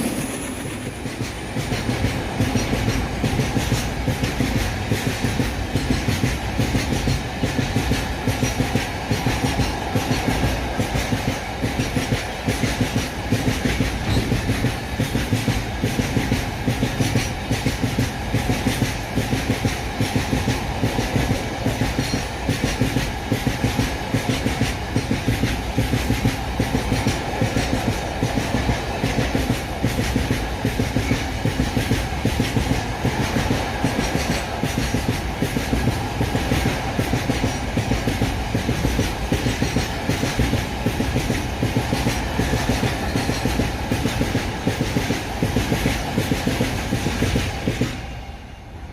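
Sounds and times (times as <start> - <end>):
train wheels clicking over rail joints: 0.0 - 48.3
goods train rumbling: 0.0 - 48.9.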